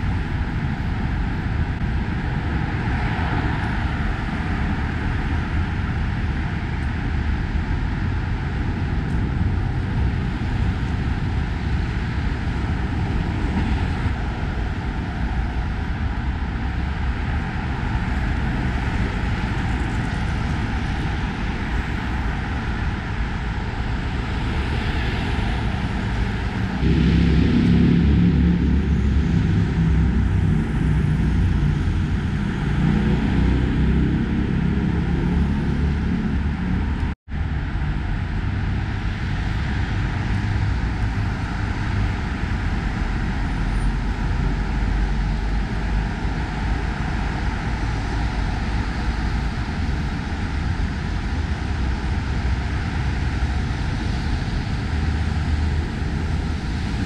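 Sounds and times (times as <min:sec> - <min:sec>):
heavy low rumble: 0:00.0 - 0:57.0
road traffic rumble: 0:00.0 - 0:57.0.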